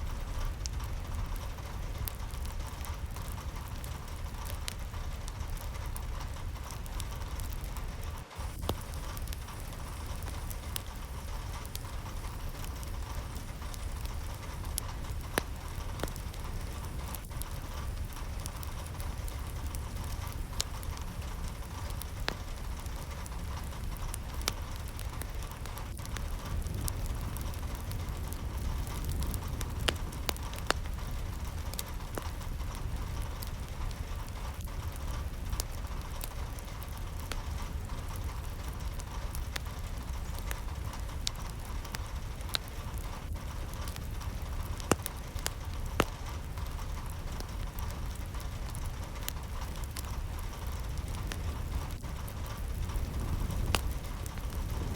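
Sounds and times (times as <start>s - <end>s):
low rumble: 0.0s - 54.9s
raindrop ticks: 0.0s - 54.9s
steady rain falling: 0.0s - 54.9s.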